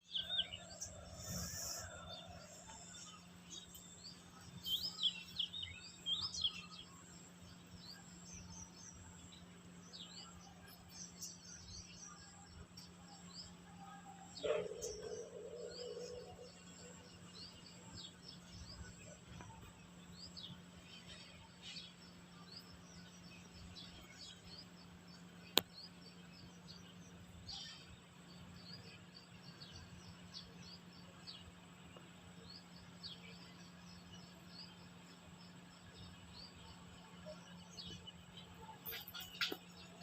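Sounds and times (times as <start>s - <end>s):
faint steady hum: 0.0s - 40.0s
small birds chirping: 0.0s - 40.0s.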